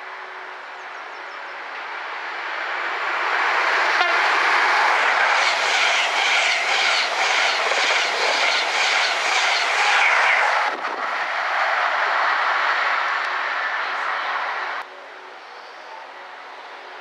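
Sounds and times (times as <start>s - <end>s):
train wheel and rail noise: 0.0s - 17.0s.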